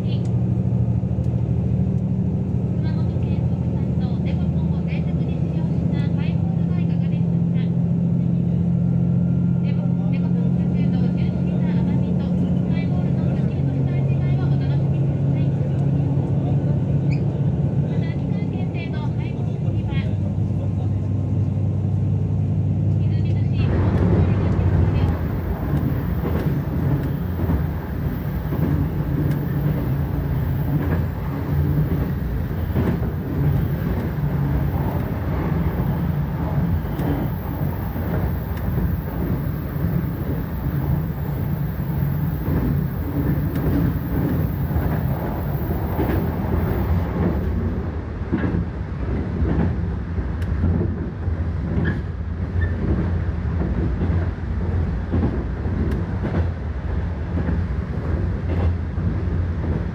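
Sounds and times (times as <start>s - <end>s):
freight train wagons rumbling: 0.0s - 59.9s.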